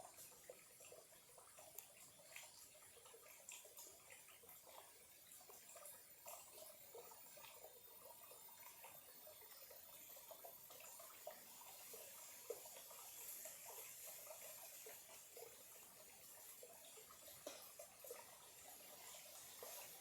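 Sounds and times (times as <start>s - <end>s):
stream trickling: 0.0s - 20.0s.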